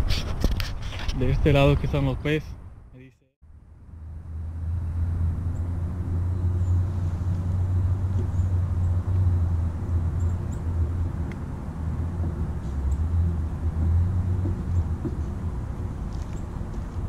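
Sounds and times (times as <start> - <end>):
low outdoor rumble: 1.2 - 17.0.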